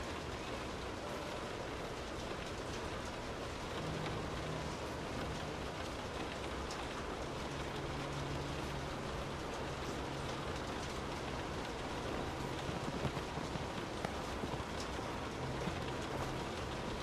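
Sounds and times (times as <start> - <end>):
faint low hum: 0.0 - 17.0
rain patter: 0.0 - 17.0.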